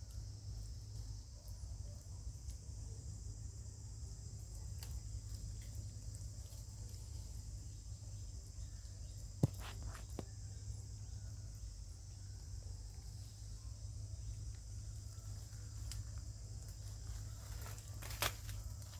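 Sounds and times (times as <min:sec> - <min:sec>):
high-pitched insect chorus: 0:00.0 - 0:18.9.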